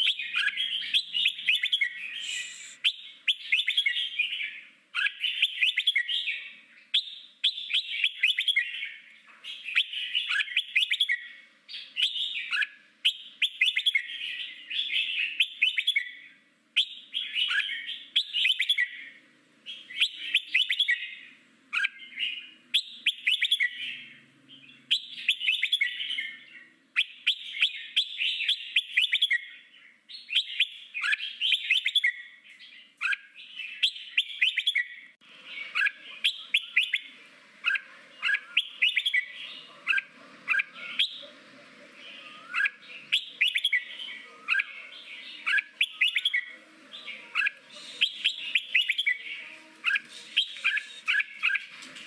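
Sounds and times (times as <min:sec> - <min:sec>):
bird song chattering phrases: 0:00.0 - 0:52.0.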